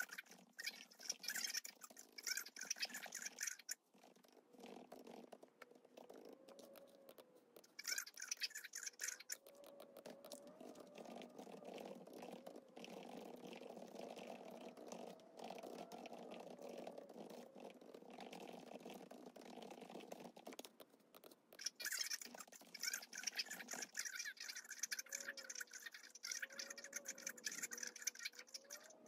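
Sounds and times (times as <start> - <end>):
laptop keyboard typing: 0.0 - 29.0.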